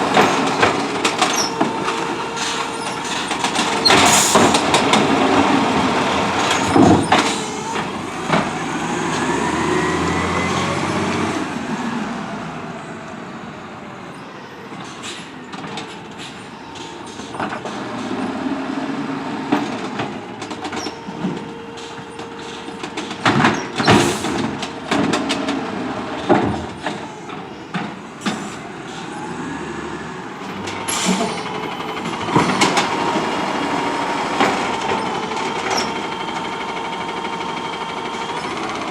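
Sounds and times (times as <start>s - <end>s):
garbage truck engine running: 0.0s - 14.2s, 14.8s - 38.9s.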